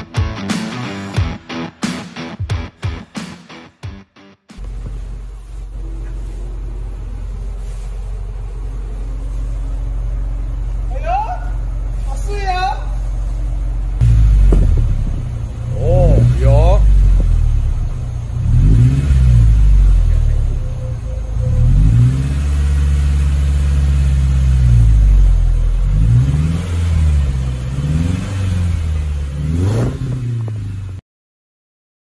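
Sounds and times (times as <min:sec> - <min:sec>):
car exhaust revving: 0:04.6 - 0:31.0.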